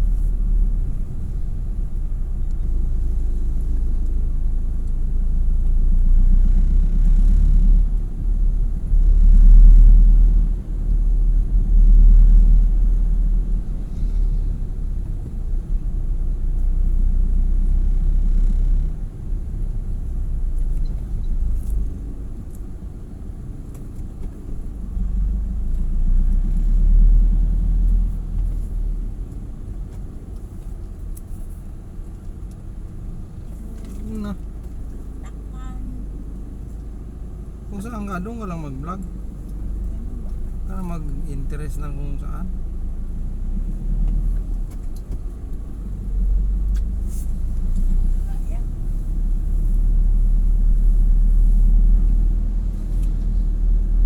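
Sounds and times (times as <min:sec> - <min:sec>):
moving vehicle rumble: 0:00.0 - 0:54.0.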